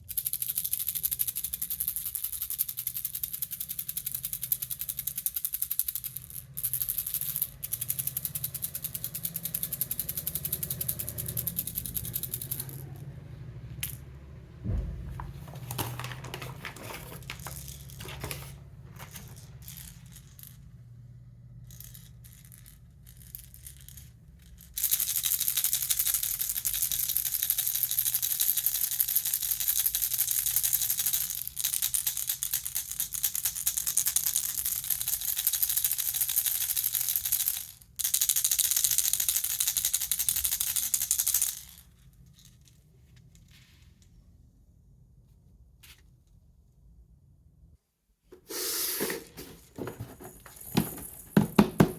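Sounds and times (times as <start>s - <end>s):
plastic baby rattle shaken: 0.0s - 13.0s, 15.4s - 20.7s, 21.7s - 42.8s, 48.4s - 51.9s.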